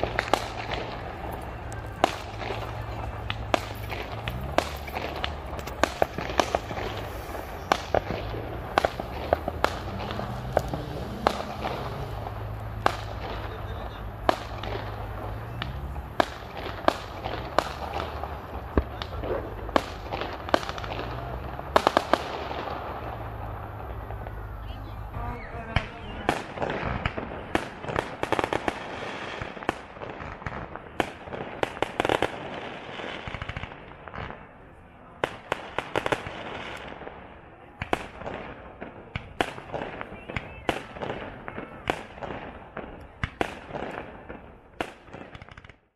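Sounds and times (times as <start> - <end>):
fireworks cracking and popping: 0.0 - 45.9.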